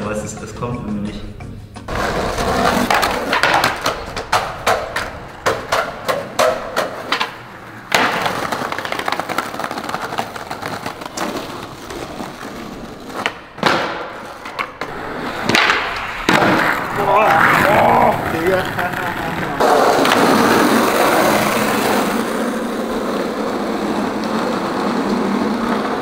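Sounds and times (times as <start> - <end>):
skateboard clacks: 1.8 - 26.0
skateboard wheels rolling on pavement: 1.8 - 26.0.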